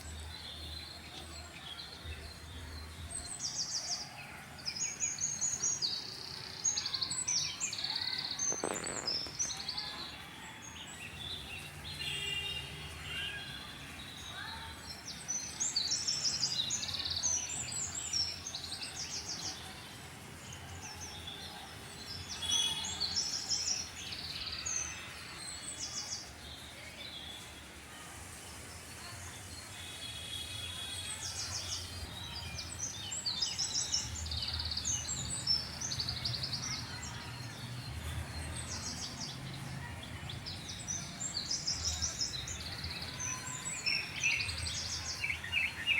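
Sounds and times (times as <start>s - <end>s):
songbirds chirping and singing: 0.0s - 45.9s.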